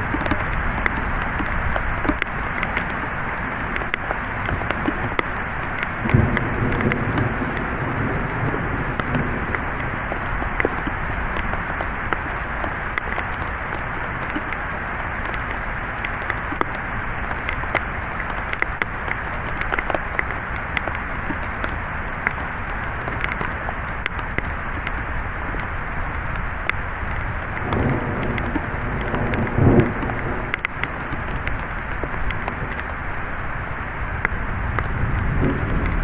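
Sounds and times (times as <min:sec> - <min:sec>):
heavy rain falling: 0:00.0 - 0:36.0
raindrops ticking on surface: 0:00.0 - 0:36.0.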